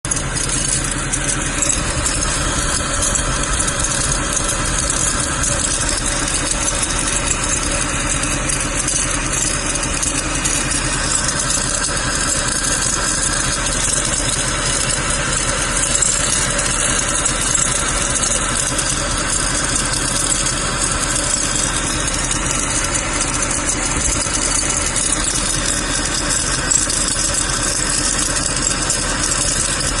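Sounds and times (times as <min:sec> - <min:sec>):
car engine running: 0:00.0 - 0:30.0
pulley rattling: 0:00.0 - 0:30.0.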